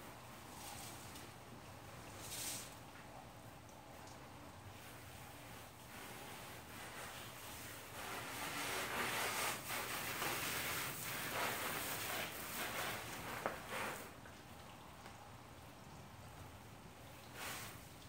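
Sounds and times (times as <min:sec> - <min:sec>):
water spraying from hose: 0:00.0 - 0:14.8, 0:16.1 - 0:18.0.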